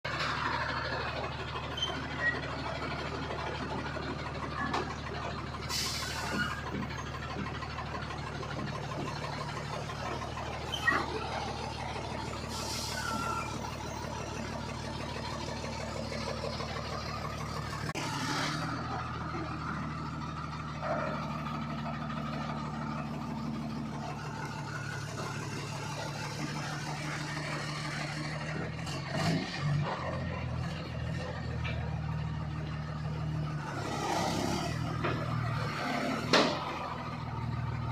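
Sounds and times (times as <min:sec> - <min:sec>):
truck engine running: 0:00.0 - 0:37.9.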